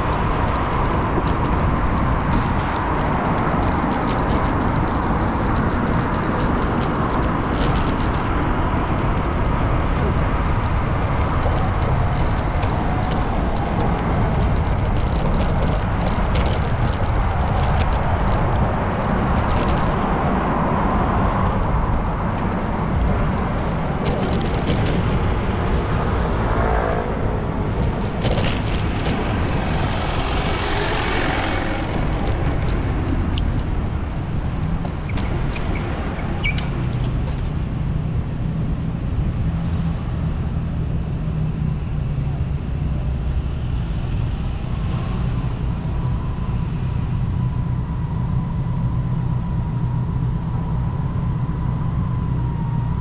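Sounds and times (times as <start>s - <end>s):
cars and buses passing: 0.0s - 53.0s
road noise: 0.0s - 53.0s
wind on microphone: 0.0s - 53.0s.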